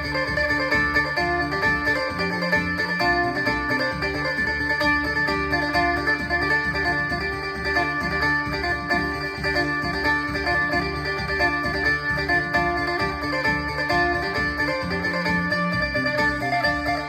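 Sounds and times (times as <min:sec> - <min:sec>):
amplified plucked lute melody: 0:00.0 - 0:17.0.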